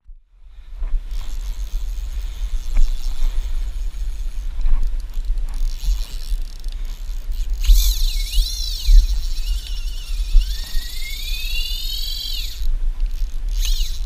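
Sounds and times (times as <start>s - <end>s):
wind and boat rumble: 0.0s - 14.0s
fishing reel drag whine: 0.5s - 14.0s.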